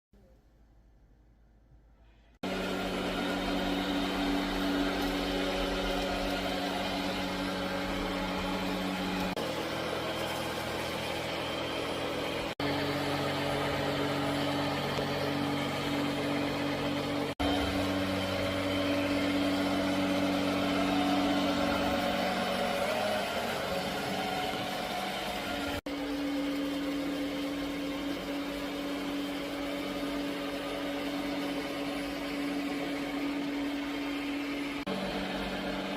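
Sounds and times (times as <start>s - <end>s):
robot vacuum motor humming: 2.4s - 35.9s.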